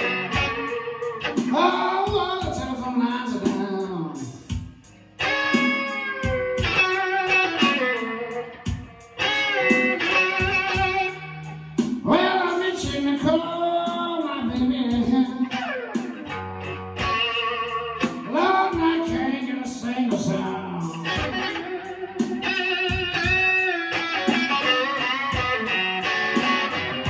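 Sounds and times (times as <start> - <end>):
electric guitar blues solo: 0.0 - 27.0.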